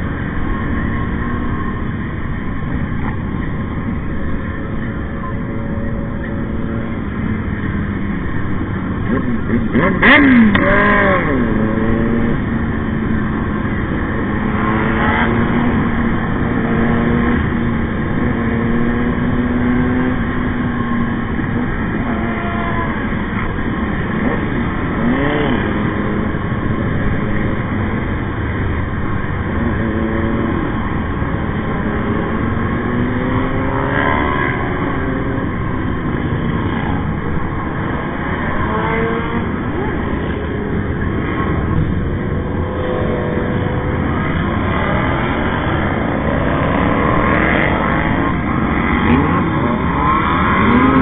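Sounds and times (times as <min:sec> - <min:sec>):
motorcycle engine drone: 0:00.0 - 0:51.0.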